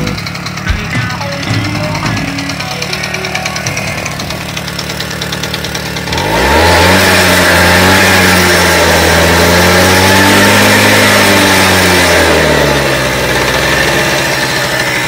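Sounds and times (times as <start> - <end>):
moped engine starting and idling: 0.0 - 15.0.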